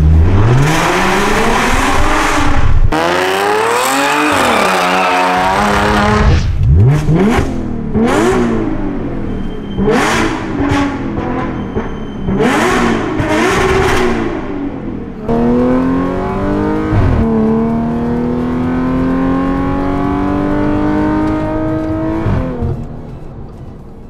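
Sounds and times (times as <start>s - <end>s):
car accelerating hard: 0.0s - 9.1s, 12.3s - 22.9s
car engine revving: 0.0s - 23.2s.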